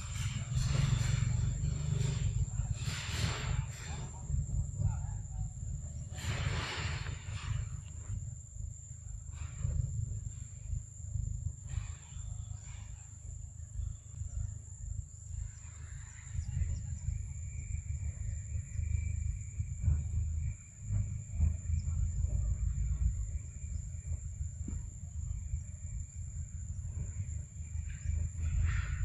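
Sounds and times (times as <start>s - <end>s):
high-pitched insect drone: 0.0s - 29.0s
low insect buzz: 0.0s - 29.0s
low rumble: 0.0s - 29.0s.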